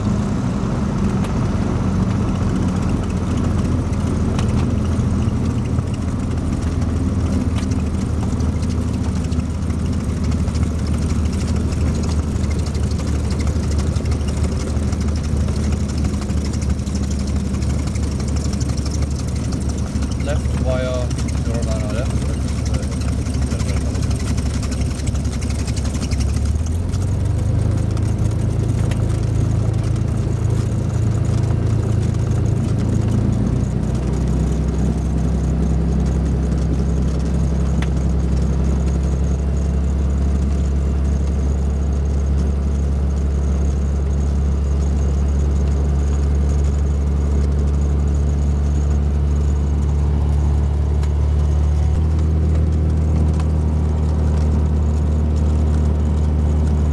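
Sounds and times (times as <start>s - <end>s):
propeller aircraft engine droning: 0.0s - 56.9s.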